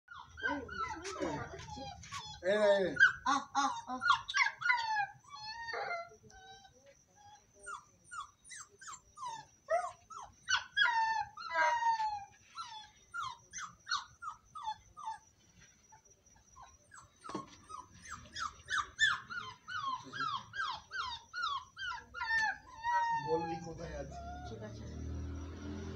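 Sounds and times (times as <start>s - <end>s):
puppy whimpering: 0.1s - 15.3s, 15.9s - 25.2s.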